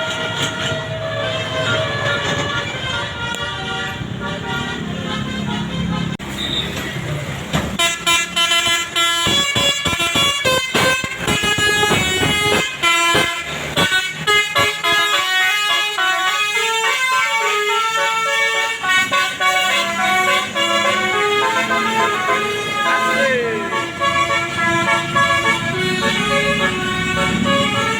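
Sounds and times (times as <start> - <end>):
bus musical air horn: 0.0 - 7.0, 7.7 - 27.9.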